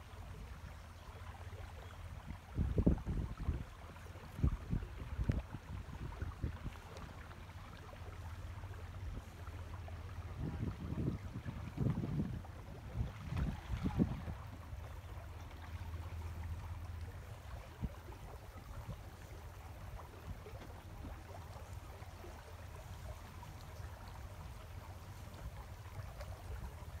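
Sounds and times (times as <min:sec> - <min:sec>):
water lapping along hull: 0:00.0 - 0:27.0.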